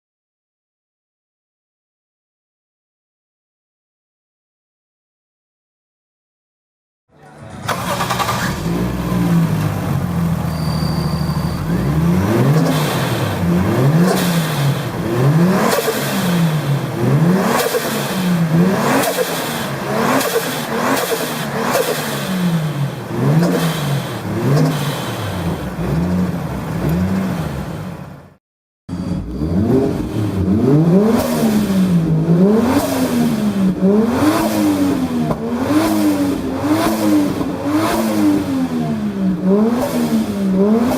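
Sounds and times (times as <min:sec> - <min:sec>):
car engine idling and revving: 0:07.5 - 0:40.9.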